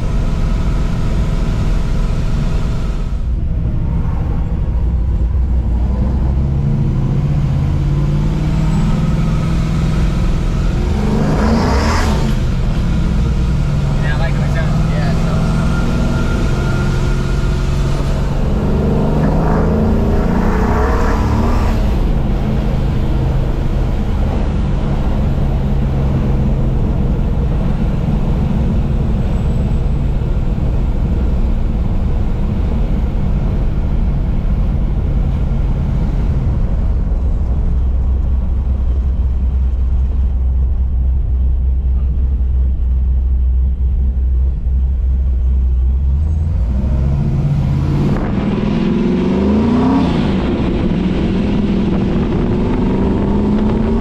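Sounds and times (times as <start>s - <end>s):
muscle car engine revving: 0.0s - 54.0s.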